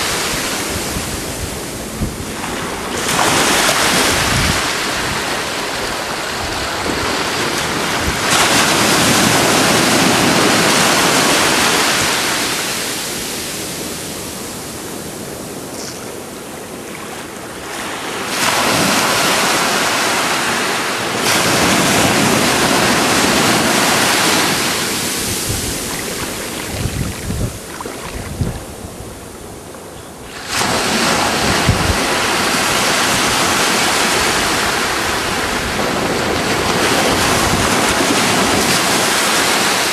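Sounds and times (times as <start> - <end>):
wind buffeting microphone: 0.0 - 17.6, 21.1 - 39.9
waves breaking: 0.0 - 39.9.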